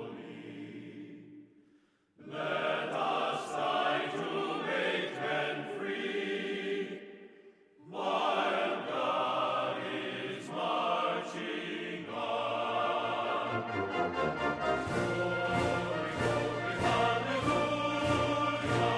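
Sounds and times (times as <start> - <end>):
choir singing sustained chords: 0.0 - 18.9.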